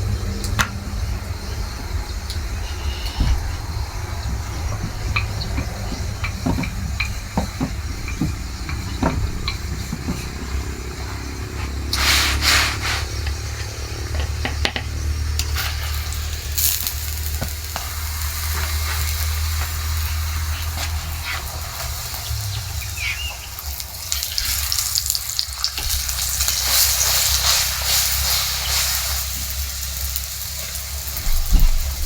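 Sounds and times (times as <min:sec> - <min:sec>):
steady low rumble: 0:00.0 - 0:26.7
oil sizzling in a pan: 0:02.2 - 0:13.8, 0:15.0 - 0:32.0.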